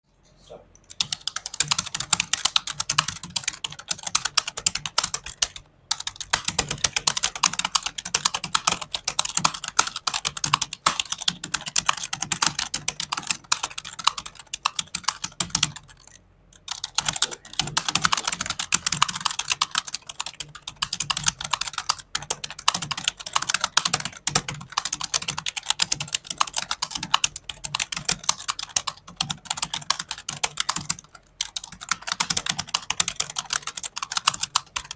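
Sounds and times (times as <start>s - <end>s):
fast typing on a keyboard: 0.9s - 34.9s.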